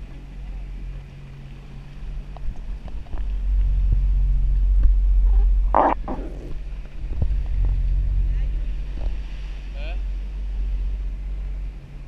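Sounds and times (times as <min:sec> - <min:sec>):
jet ski engine rumble: 0:00.0 - 0:12.0.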